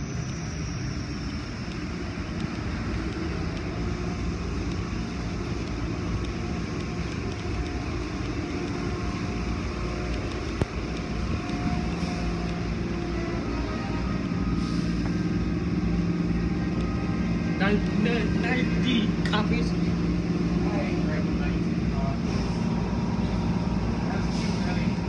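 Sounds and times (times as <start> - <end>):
car wash machinery running: 0.0 - 25.0.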